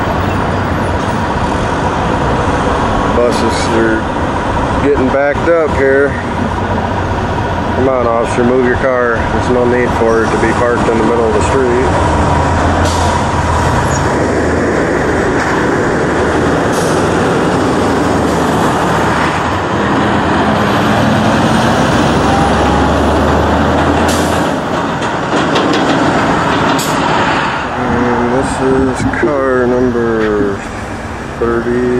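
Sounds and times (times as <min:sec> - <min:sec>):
cars and buses passing: 0:00.0 - 0:31.9.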